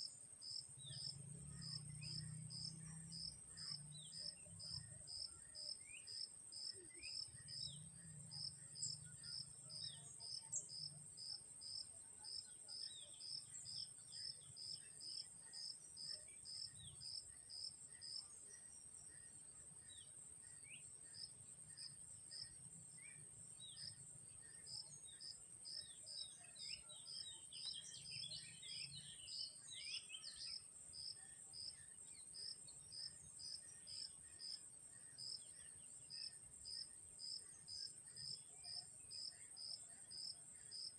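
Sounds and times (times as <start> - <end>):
crickets chirping: 0.0 - 40.9
bird chirps: 0.4 - 40.9.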